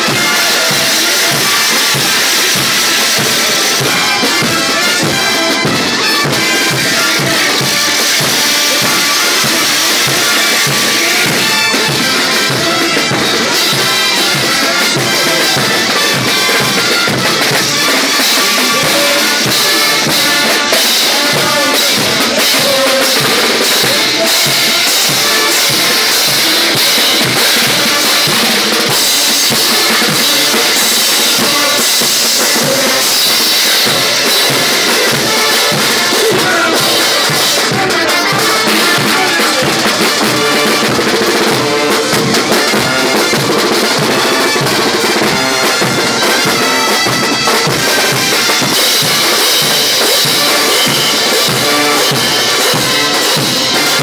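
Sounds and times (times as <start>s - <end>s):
festive dance music: 0.0s - 54.0s.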